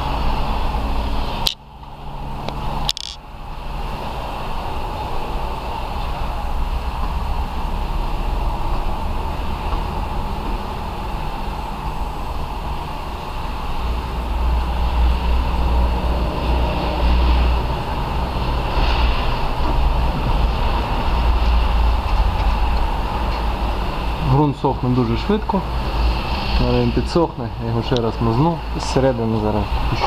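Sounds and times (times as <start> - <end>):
machine-like low rumble and hum: 0.0 - 30.0.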